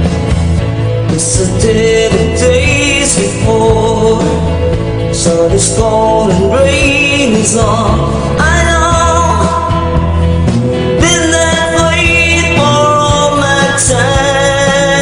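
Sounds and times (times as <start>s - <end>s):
live band instrumental music: 0.0s - 15.0s.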